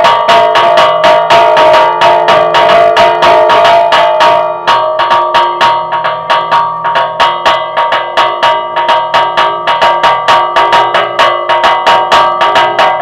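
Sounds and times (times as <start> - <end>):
church bells ringing rapidly: 0.0 - 13.0.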